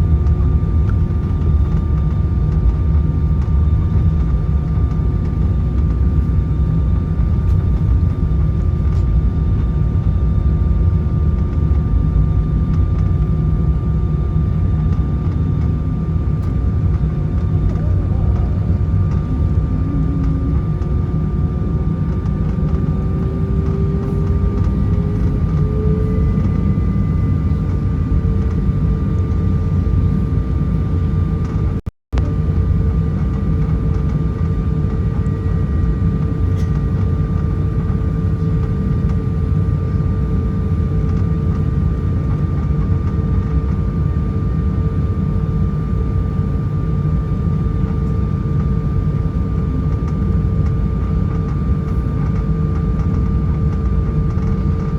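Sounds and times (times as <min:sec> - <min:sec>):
aircraft cabin engine rumble: 0:00.0 - 0:54.9
engine whine: 0:00.0 - 0:54.9.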